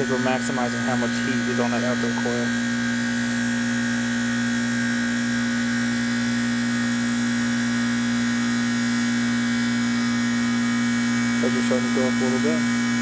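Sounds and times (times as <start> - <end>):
compressor humming: 0.0 - 13.0.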